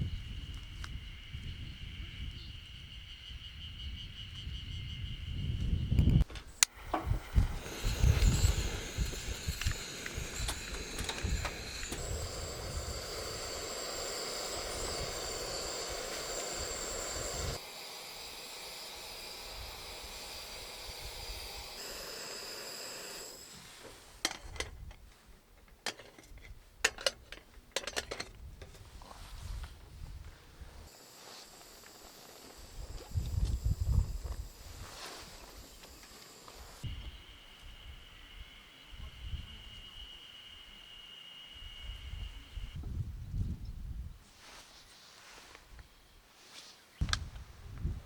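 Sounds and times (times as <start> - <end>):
noisy outdoor background: 0.0 - 48.0.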